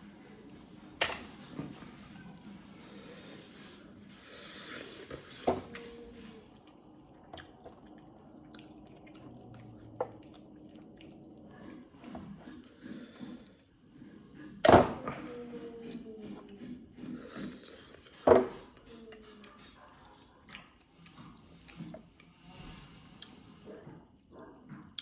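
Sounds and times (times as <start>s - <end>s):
wet squishy sounds: 3.4s - 25.0s.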